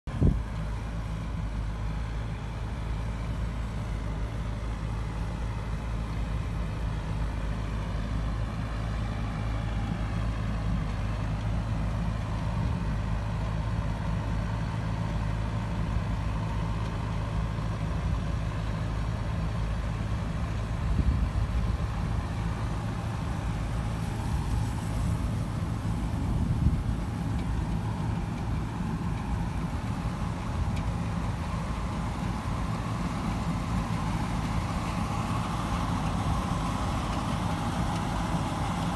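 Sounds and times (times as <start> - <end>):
tractor diesel engines running: 0.0 - 38.9.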